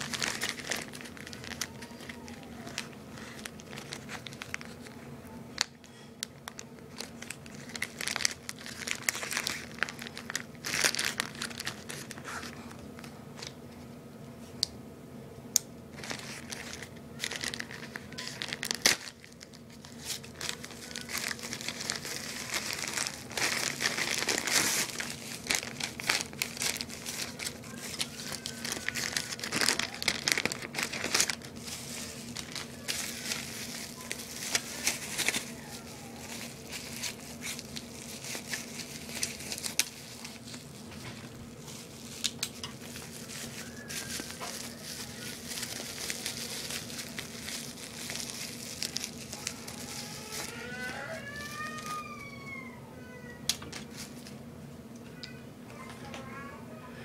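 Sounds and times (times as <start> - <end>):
packaging crinkling and rustling: 0.0 - 13.9, 15.9 - 54.4.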